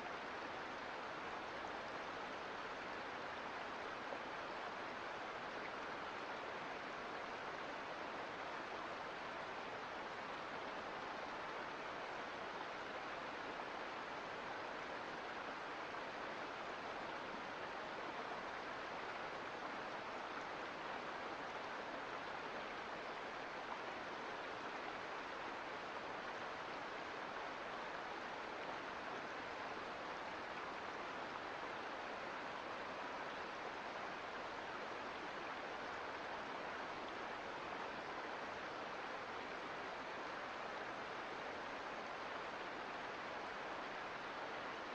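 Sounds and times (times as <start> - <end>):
creek flowing over rocks: 0.0 - 44.9.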